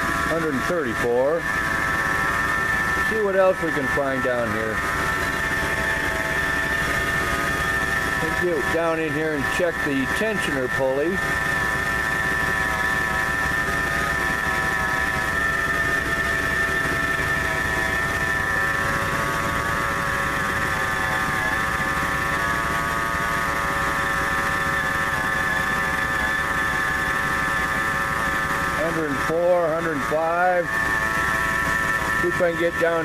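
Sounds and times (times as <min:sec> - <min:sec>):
engine idling: 0:00.0 - 0:33.0
high-pitched belt whine: 0:00.0 - 0:33.0.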